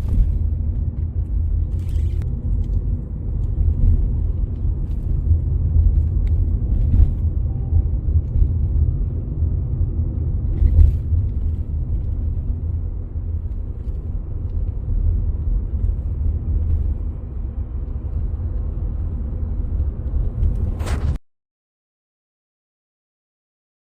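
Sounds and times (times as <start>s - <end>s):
car road and engine rumble: 0.0s - 21.2s.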